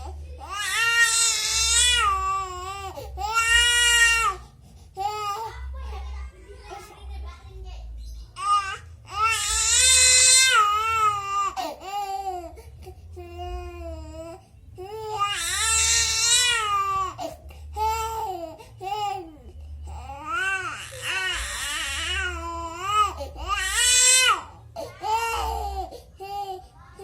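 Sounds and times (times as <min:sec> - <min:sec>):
baby crying: 0:00.0 - 0:04.4, 0:08.4 - 0:19.3, 0:19.9 - 0:27.0.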